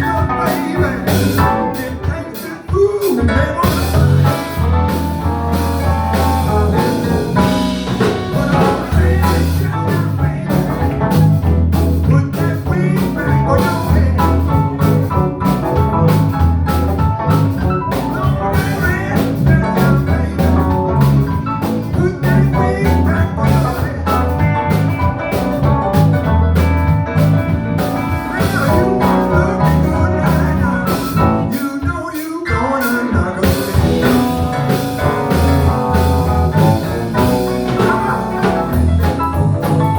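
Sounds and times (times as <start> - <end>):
blues band playing: 0.0 - 39.9.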